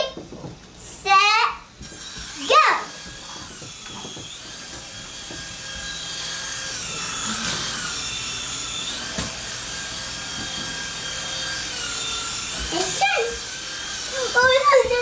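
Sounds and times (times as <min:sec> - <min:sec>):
drone propeller motors whining: 0:01.8 - 0:15.0.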